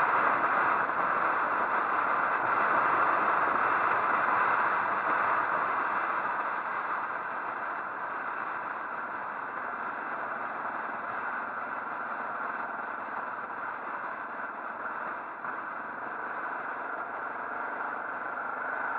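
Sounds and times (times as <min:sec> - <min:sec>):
rushing wind: 0:00.0 - 0:18.9
motorcycle road noise: 0:00.1 - 0:18.9.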